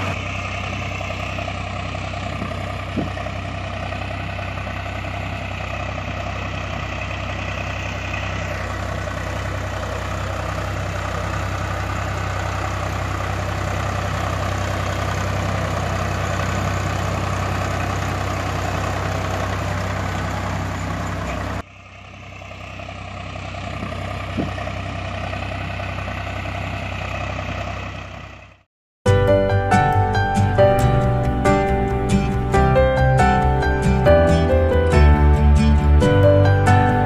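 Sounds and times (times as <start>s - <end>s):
tractor engine chugging: 0.0s - 37.0s.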